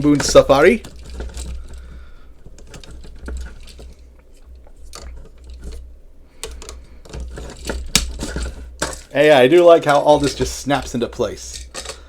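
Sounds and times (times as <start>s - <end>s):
plastic toy parts clicking: 0.0s - 12.0s.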